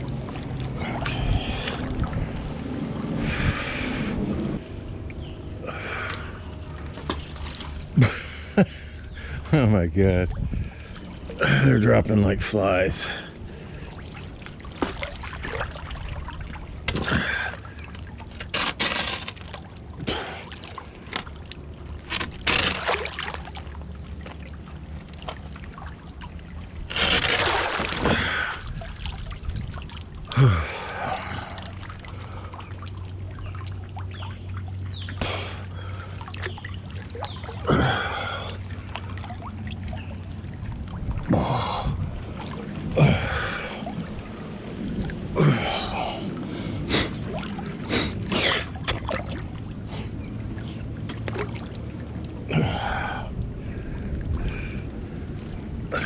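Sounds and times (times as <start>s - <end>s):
water trickling and splashing: 0.0s - 3.5s, 4.6s - 56.0s
steady low hum: 0.0s - 56.0s.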